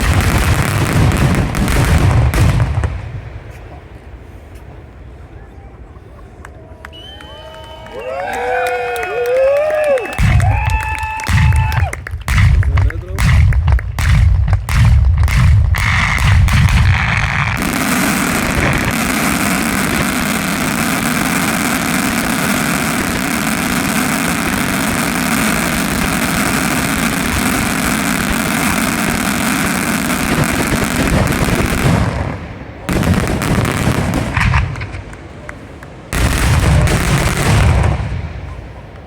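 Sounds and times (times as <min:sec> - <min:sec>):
fireworks crackling: 0:00.0 - 0:07.4, 0:08.0 - 0:39.0.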